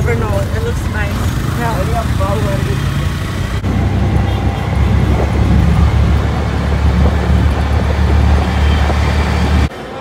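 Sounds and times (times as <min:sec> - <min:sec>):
auto-rickshaw engine drone: 0:00.0 - 0:10.0
road noise: 0:00.0 - 0:10.0.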